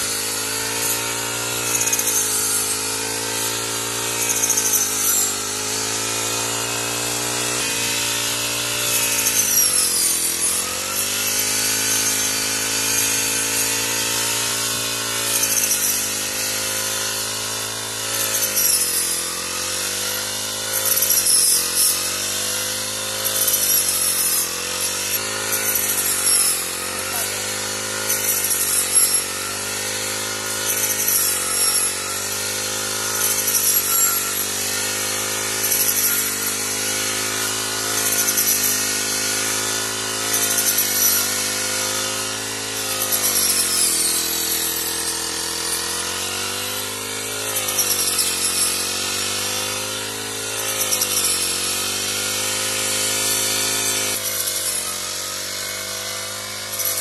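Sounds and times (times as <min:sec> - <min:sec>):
brushcutter engine running: 0:00.0 - 0:57.0.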